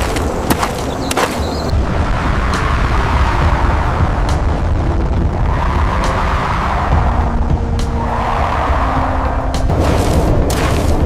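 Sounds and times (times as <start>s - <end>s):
deep rumbling roar: 1.6s - 11.0s.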